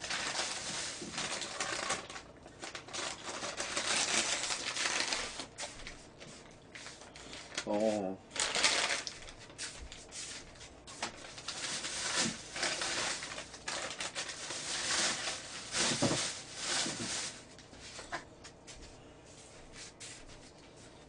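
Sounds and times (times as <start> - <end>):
paper bag rustling: 0.0 - 18.2.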